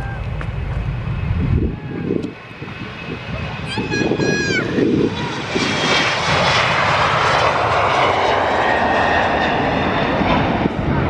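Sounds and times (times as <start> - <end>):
jet engine roar with whine: 0.0 - 11.0.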